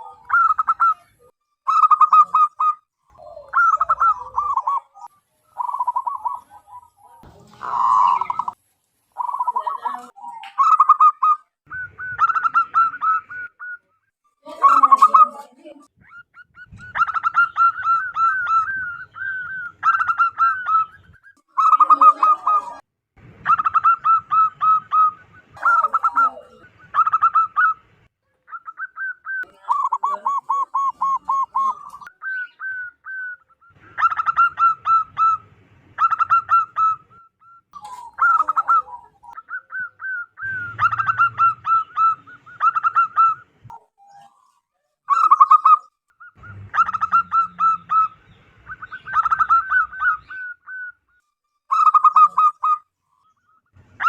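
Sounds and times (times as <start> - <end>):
dove cooing: 0.0 - 8.6, 9.2 - 14.0, 14.6 - 22.8, 23.4 - 52.9.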